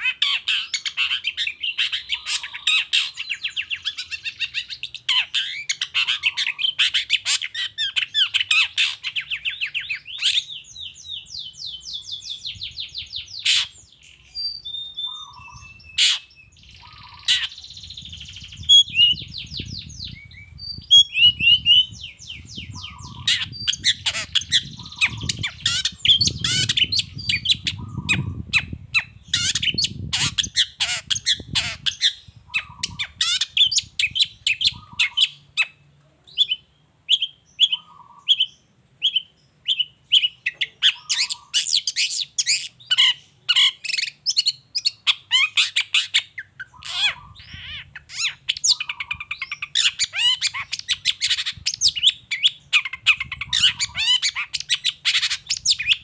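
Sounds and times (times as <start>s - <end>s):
bird singing chattering notes: 0.0s - 56.0s.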